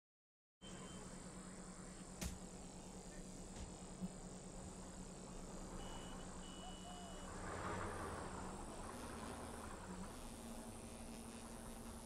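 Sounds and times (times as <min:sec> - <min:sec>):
low hum: 0:00.6 - 0:12.0.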